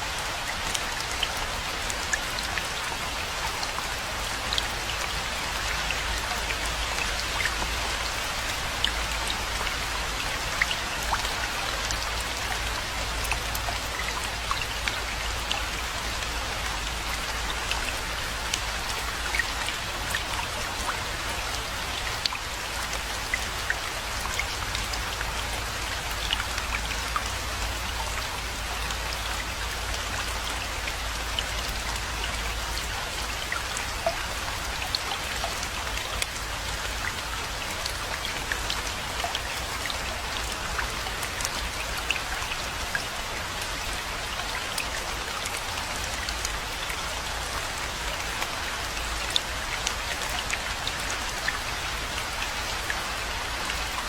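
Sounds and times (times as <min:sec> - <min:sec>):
rain drops striking a surface: 0:00.0 - 0:54.0.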